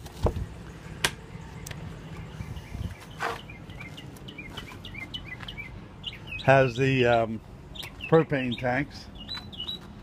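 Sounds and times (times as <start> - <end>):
songbird singing: 0.4 - 10.0.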